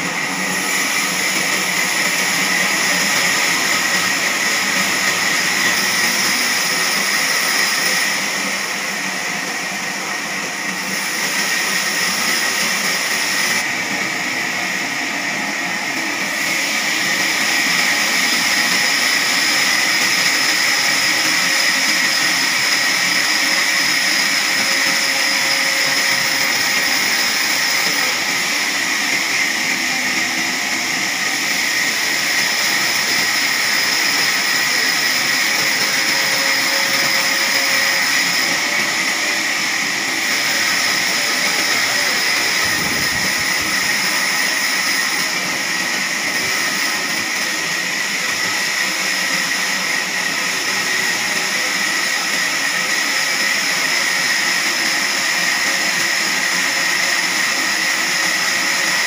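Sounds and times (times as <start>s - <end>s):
band saw whining through log: 0.0s - 59.0s.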